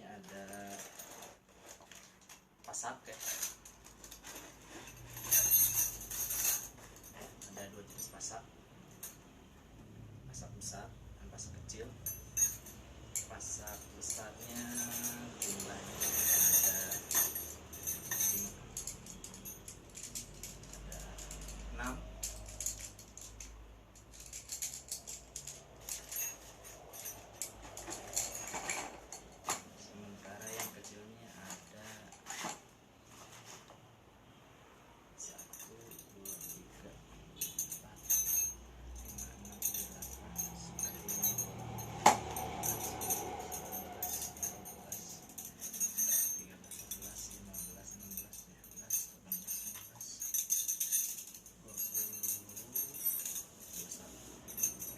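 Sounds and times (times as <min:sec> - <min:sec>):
light metallic clinks: 0:00.2 - 0:09.6, 0:10.4 - 0:32.6, 0:35.2 - 0:54.9.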